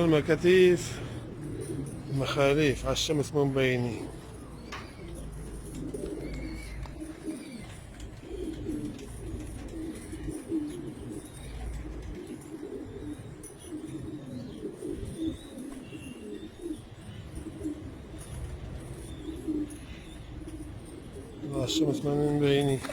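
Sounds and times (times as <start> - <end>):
pigeons cooing: 0.0 - 22.9.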